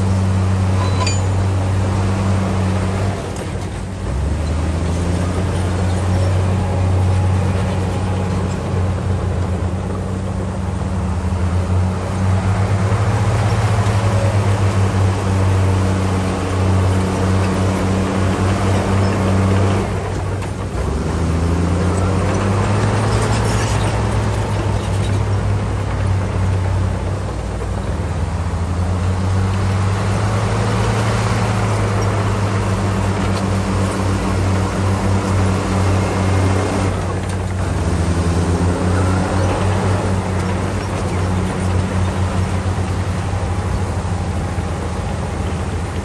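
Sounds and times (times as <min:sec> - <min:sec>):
bulldozer diesel engine under load: 0:00.0 - 0:46.0.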